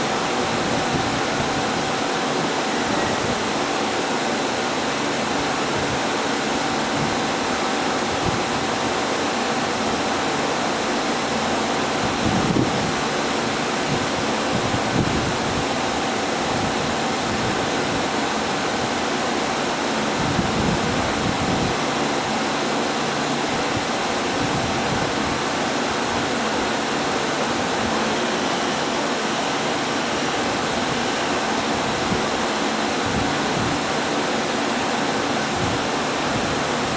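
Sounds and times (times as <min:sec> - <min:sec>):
faint steady whine: 0:00.0 - 0:36.9.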